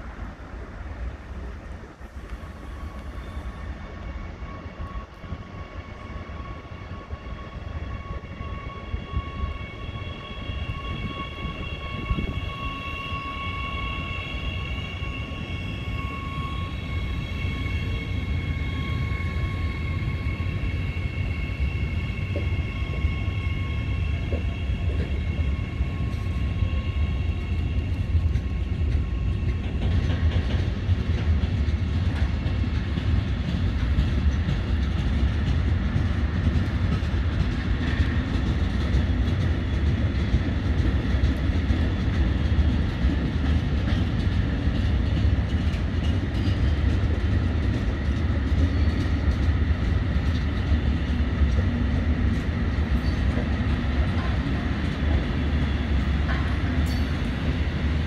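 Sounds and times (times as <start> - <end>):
locomotive high whine: 0.0 - 58.0.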